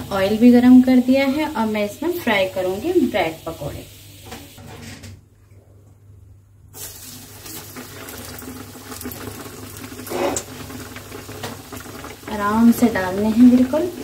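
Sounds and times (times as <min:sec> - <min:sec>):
food deep-frying in hot oil: 0:00.0 - 0:04.6, 0:06.7 - 0:14.0.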